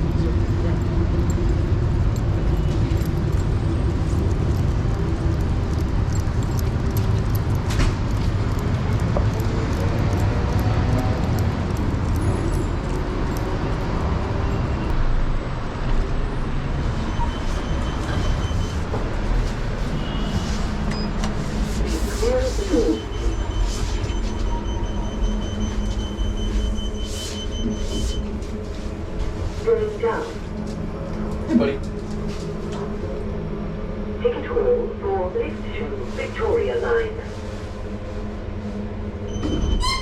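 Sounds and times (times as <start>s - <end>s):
city street traffic rumble: 0.0s - 40.0s.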